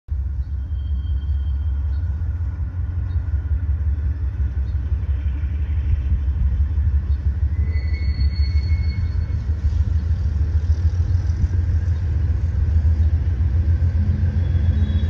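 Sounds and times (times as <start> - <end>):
locomotive diesel engine rumbling: 0.1 - 15.0.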